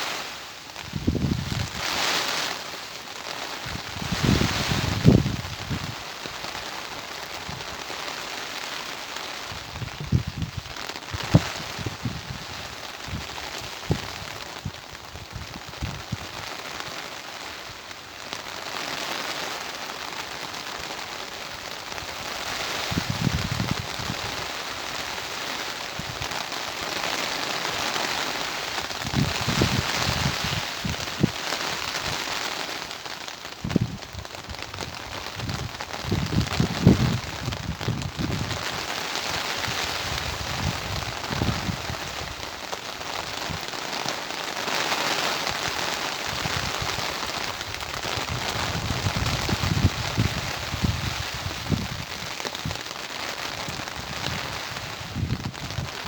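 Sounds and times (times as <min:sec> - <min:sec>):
wind gusting against microphone: 0:00.0 - 0:02.7, 0:03.5 - 0:06.4, 0:09.4 - 0:16.6, 0:22.0 - 0:32.7, 0:33.5 - 0:56.0
steady rain falling: 0:00.0 - 0:56.0.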